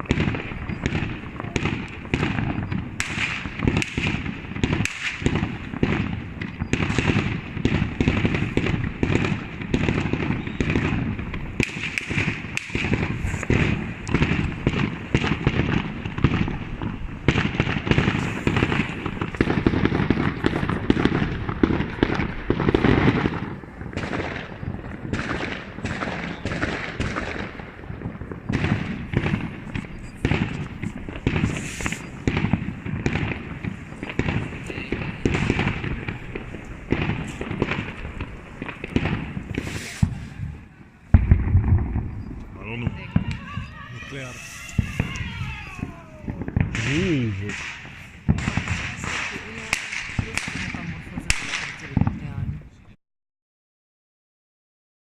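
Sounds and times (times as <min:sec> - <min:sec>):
fireworks exploding: 0:00.0 - 0:53.0.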